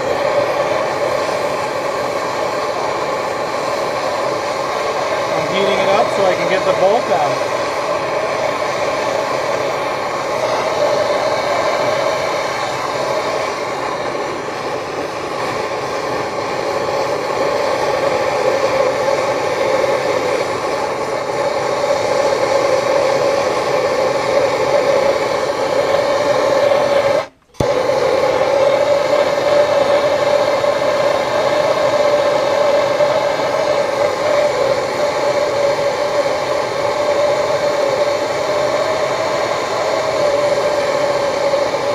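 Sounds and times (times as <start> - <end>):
torch flame burning: 0.0 - 41.9.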